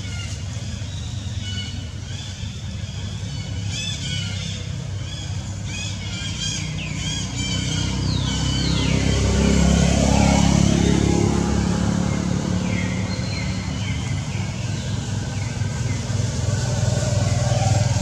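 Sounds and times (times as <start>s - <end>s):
low vehicle rumble: 0.0s - 18.0s.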